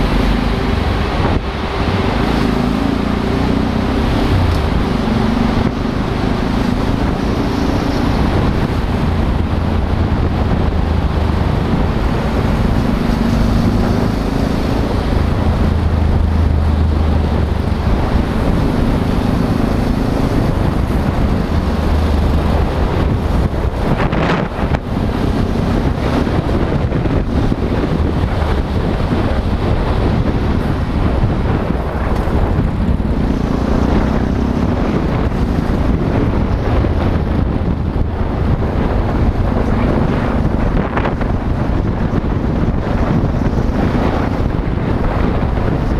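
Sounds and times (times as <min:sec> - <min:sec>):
motorcycle engine running: 0:00.0 - 0:45.9
road and wind noise: 0:00.0 - 0:45.9.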